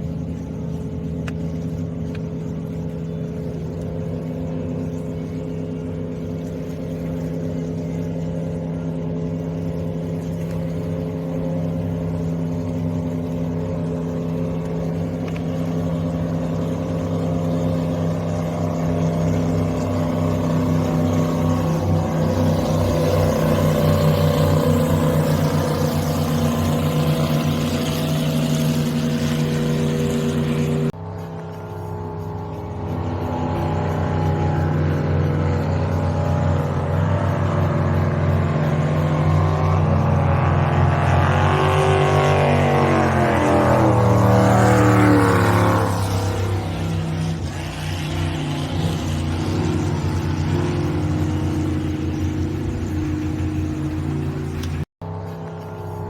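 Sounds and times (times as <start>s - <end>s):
jet boat engine running: 0.0s - 56.0s.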